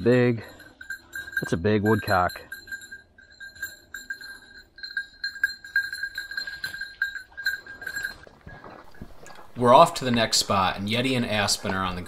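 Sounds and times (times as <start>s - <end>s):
collar bell jingling: 0.0s - 12.0s.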